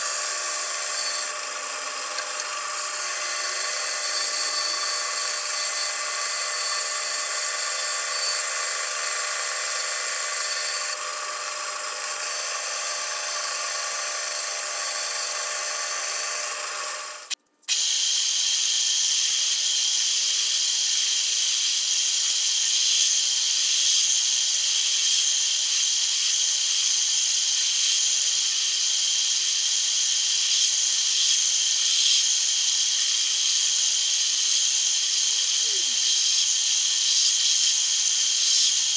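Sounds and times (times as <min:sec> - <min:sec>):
band saw cutting wood: 0:00.0 - 0:38.9
belt sander hissing: 0:00.0 - 0:38.9.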